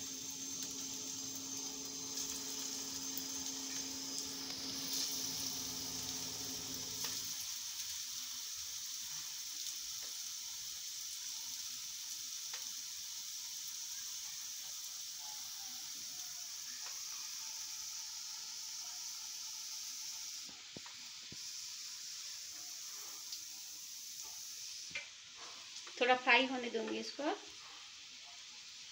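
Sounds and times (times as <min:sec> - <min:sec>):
fat sizzling in a frying pan: 0:00.0 - 0:28.9.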